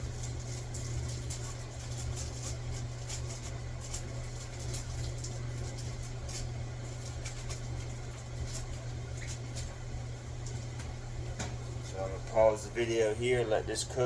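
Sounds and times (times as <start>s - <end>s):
boiling pots ticking and popping: 0.0s - 14.0s
steady low hum: 0.0s - 14.0s.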